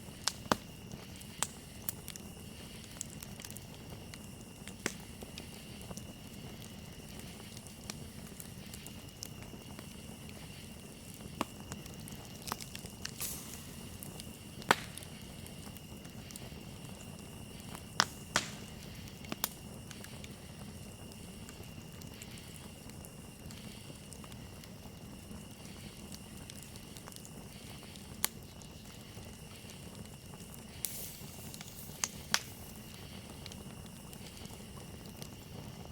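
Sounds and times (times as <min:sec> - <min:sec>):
campfire crackling and popping: 0:00.0 - 0:35.9
crickets chirring: 0:00.0 - 0:35.9.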